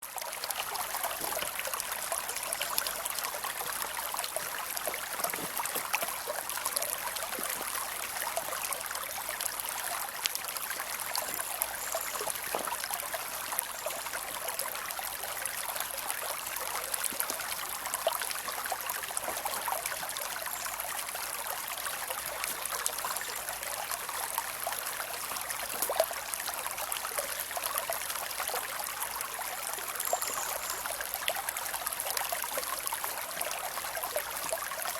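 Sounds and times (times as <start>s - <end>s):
creek water babbling over rocks: 0.0s - 34.9s.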